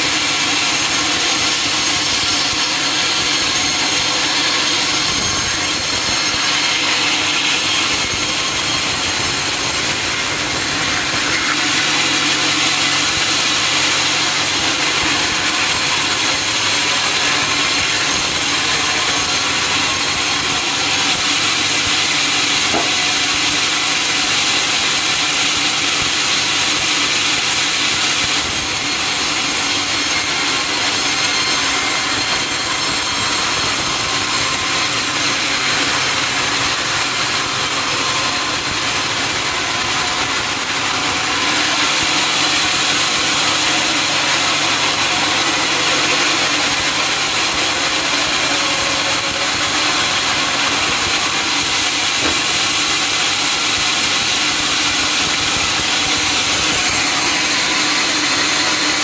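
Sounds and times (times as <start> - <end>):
saw cutting through log: 0.0 - 59.0.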